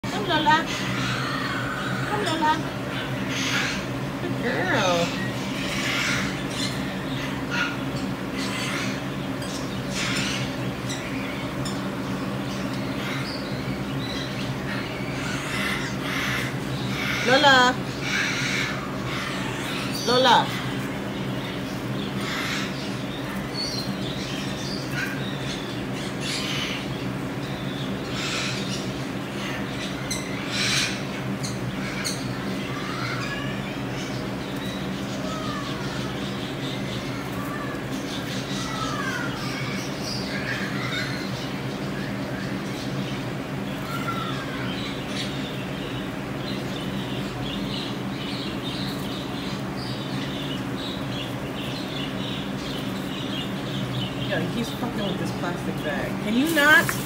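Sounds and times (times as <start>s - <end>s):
baby monkeys chirping and squeaking: 0.0s - 55.0s
steady low hum: 0.0s - 57.0s.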